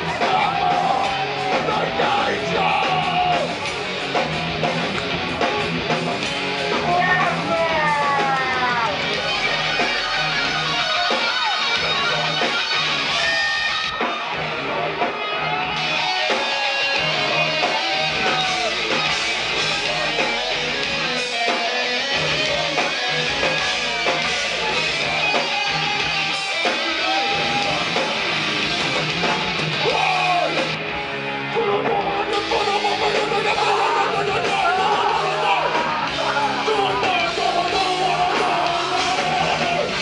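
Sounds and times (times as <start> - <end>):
distorted electric guitars: 0.0 - 40.0
heavy metal band playing live: 0.0 - 40.0.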